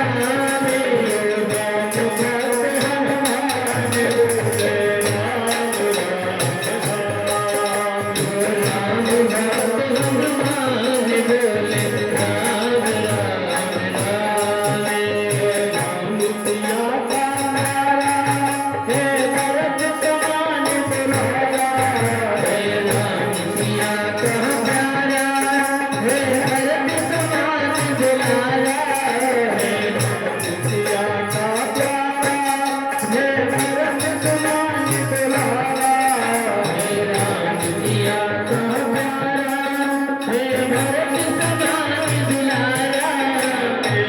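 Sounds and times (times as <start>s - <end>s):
devotional singing: 0.0s - 44.0s
fast rattling percussion: 0.0s - 44.0s.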